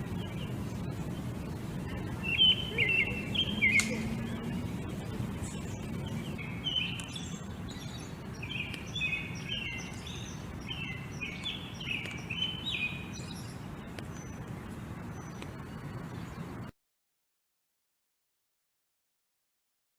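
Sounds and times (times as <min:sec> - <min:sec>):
low background rumble: 0:00.0 - 0:16.7
small birds chirping: 0:00.0 - 0:16.7.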